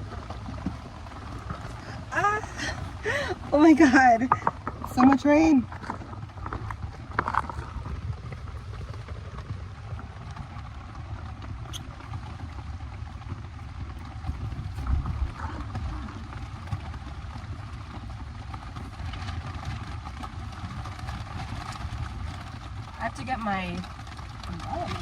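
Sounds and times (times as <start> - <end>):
heavy rain on a tarp roof: 0.0 - 25.0.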